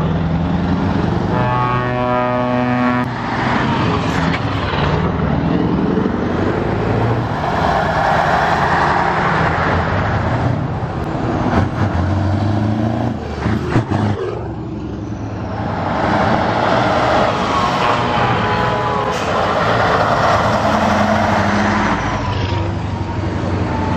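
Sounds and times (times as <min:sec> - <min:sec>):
trucks driving past: 0:00.0 - 0:23.9.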